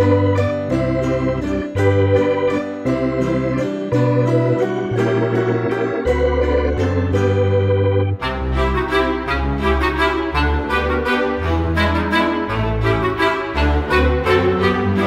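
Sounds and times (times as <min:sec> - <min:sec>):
bass line: 0:00.0 - 0:15.0
held keyboard chords: 0:00.0 - 0:15.0.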